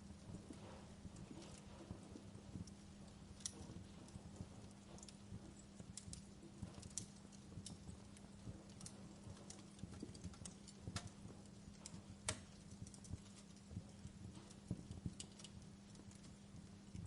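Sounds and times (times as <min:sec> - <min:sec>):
faint low hum: 0:00.0 - 0:17.0
logs crackling in a fireplace: 0:00.0 - 0:17.0.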